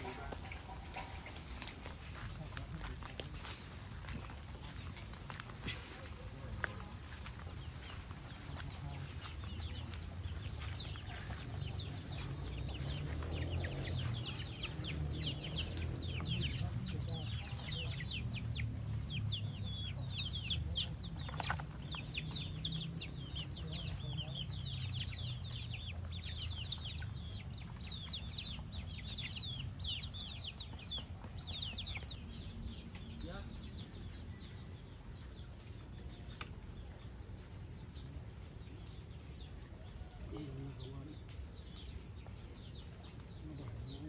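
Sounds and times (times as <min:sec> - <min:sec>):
many birds chirping: 0:00.0 - 0:44.0.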